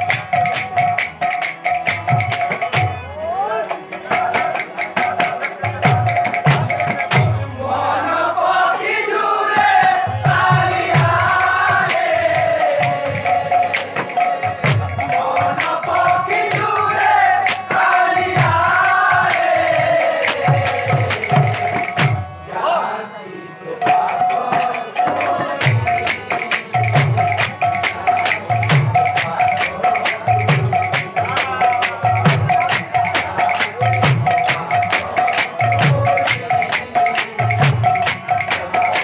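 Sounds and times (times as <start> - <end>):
group of voices singing: 0.0 - 39.0.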